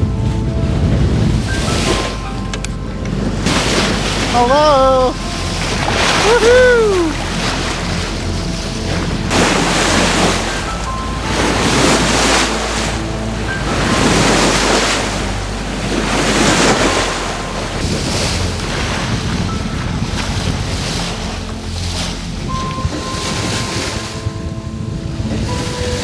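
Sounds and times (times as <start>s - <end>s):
sea water rushing past boat: 0.0s - 26.0s
wind buffeting microphone: 0.0s - 26.0s.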